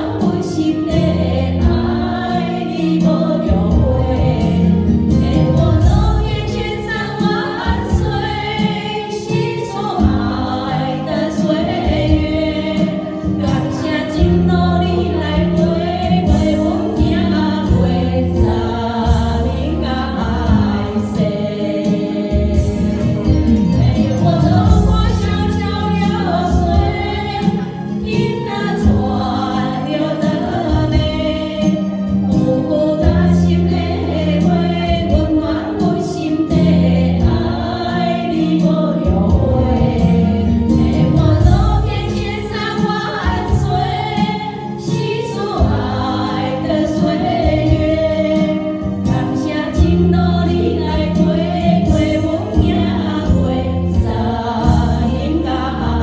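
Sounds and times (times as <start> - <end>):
instrumental backing with bass: 0.0 - 56.0
voices singing: 0.0 - 56.0.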